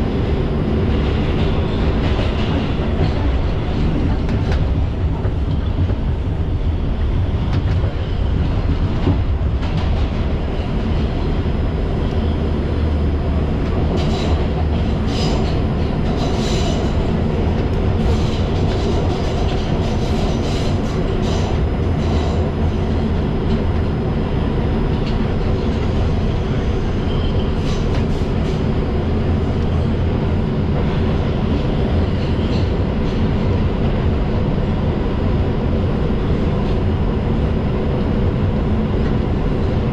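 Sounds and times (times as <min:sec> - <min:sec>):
subway train rumble: 0:00.0 - 0:39.9.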